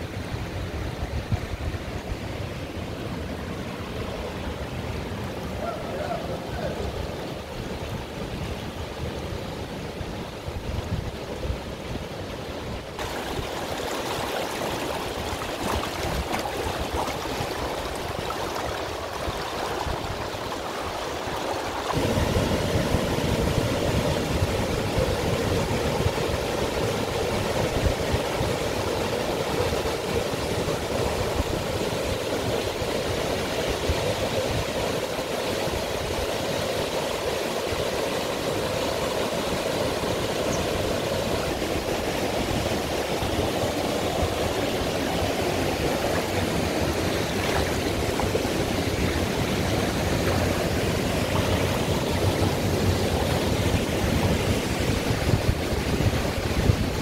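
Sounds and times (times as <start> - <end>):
stream flowing over rocks: 6.2 - 57.0.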